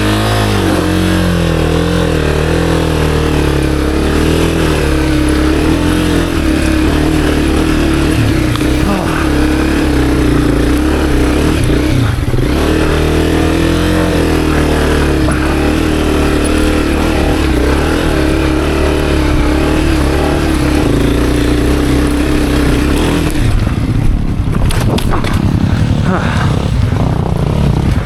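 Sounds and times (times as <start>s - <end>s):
dirt bike engine under load: 0.0s - 28.0s.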